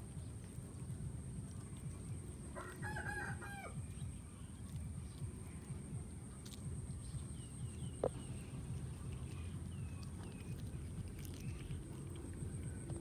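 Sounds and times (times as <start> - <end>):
cats chewing fish: 0.0 - 13.0.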